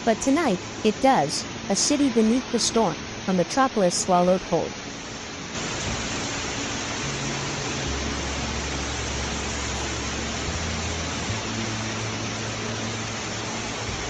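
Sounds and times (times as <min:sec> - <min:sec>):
rushing floodwater roar: 0:00.0 - 0:14.0.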